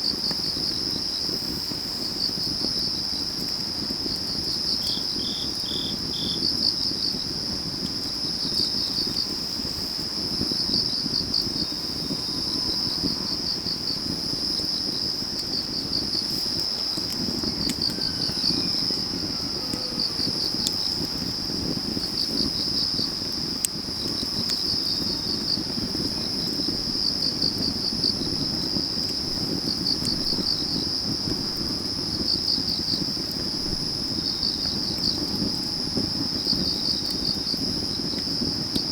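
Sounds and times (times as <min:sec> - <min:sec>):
crickets chirping: 0:00.0 - 0:38.9
fire popping: 0:00.0 - 0:38.9
firewood fire crackling: 0:00.0 - 0:38.9.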